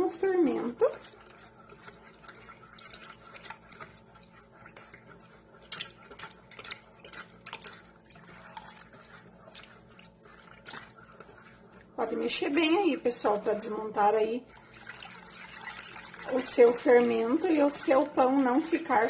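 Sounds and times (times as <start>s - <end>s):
liquid sloshing in a bowl: 0.0s - 19.0s
whisk clicking against bowl: 0.0s - 19.0s.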